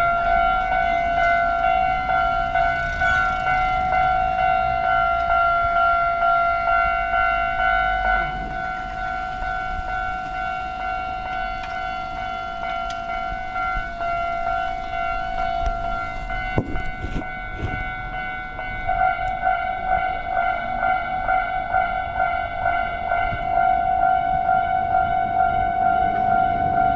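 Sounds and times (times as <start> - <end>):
level-crossing warning bell: 0.0 - 26.9
train rumbling: 0.0 - 26.9.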